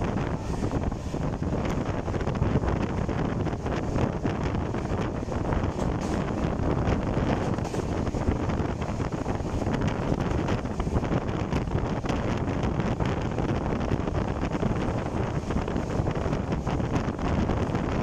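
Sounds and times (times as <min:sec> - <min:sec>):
train running noise: 0:00.0 - 0:18.0
wind buffeting microphone: 0:00.0 - 0:18.0.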